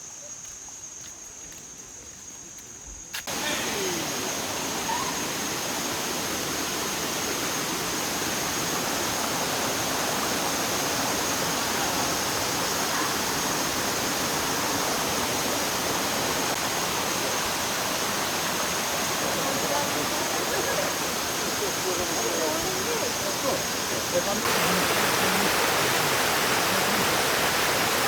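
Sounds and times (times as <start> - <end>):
water rushing: 3.3 - 28.0.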